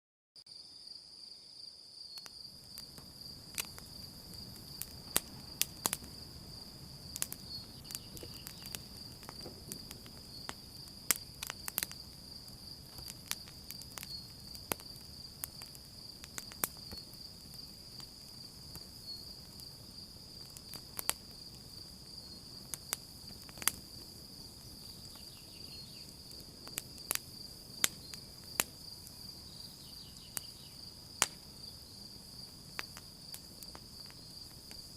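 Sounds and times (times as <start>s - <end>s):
crickets trilling: 0.4s - 34.9s
campfire crackling and popping: 2.2s - 34.9s.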